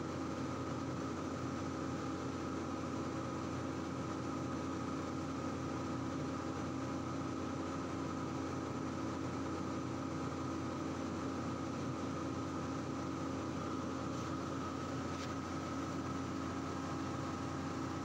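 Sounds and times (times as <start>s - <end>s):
steady hum and hiss: 0.0s - 18.0s.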